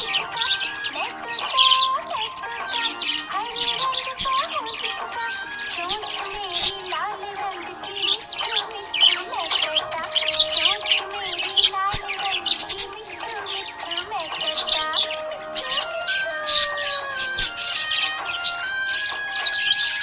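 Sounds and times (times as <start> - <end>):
background song: 0.0 - 20.0
budgerigar chirping and chattering: 0.0 - 20.0.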